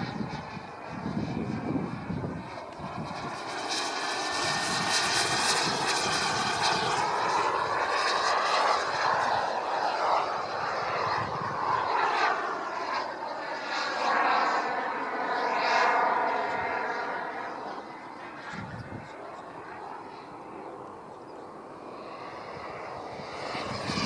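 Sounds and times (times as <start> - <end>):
model jet whine: 0.0 - 24.0.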